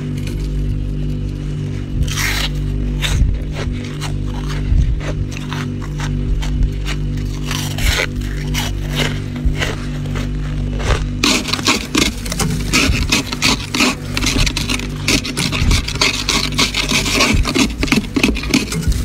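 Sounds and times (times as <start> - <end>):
frost being scraped: 0.0 - 19.0
steady low hum: 0.0 - 19.0.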